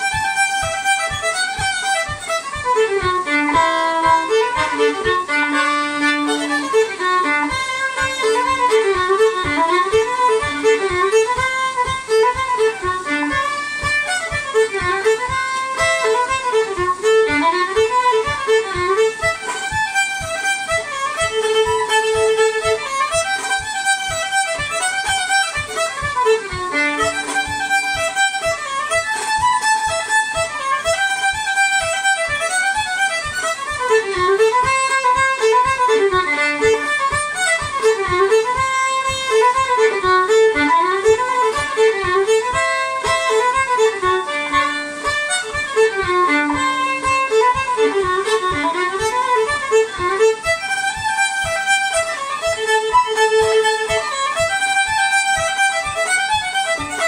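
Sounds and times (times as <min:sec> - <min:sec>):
soft low beat: 0:00.0 - 0:57.0
solo fiddle playing lively tune: 0:00.0 - 0:57.0.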